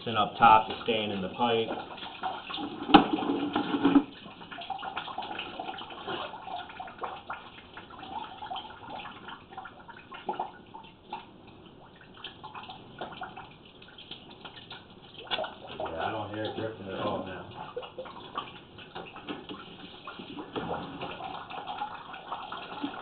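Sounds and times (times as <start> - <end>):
water trickling in drain pipe: 0.0 - 23.0
small water splashes: 0.4 - 23.0.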